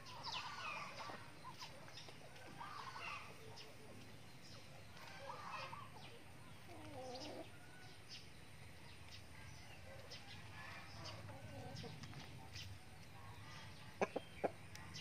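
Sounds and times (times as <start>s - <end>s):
chicken calls: 0.0s - 4.1s, 4.9s - 8.1s, 9.8s - 15.0s
chickens clucking: 0.0s - 15.0s.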